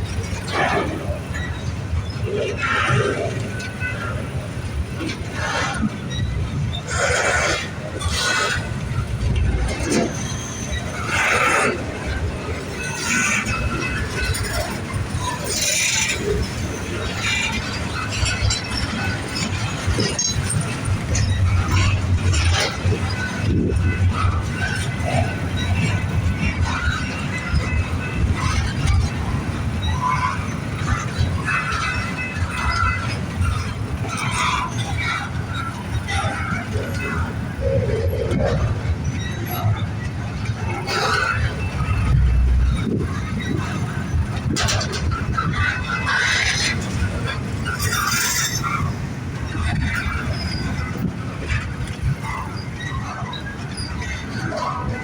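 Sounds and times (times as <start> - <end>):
train cars rumbling on rails: 0.0 - 55.0
wheel squeal: 0.2 - 55.0.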